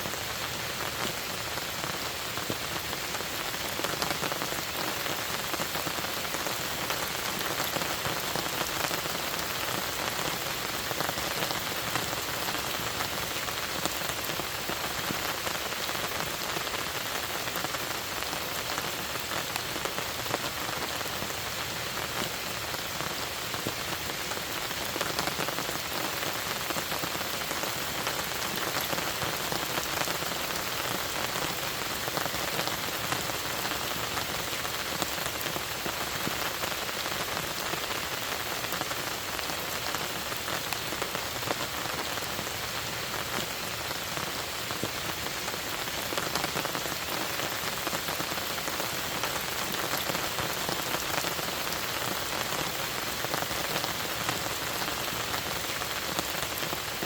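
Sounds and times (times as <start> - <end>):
rain falling on a lake: 0.0 - 57.0.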